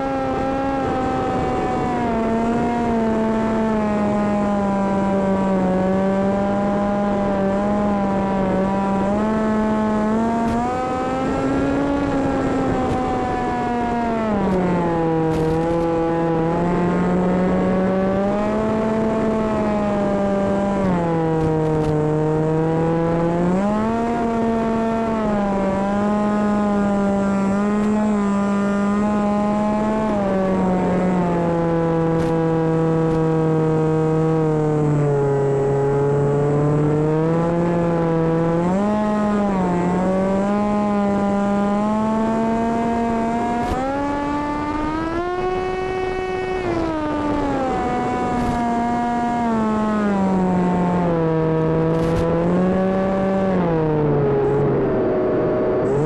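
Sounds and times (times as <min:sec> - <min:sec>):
electric motor and propeller drone: 0:00.0 - 0:56.0.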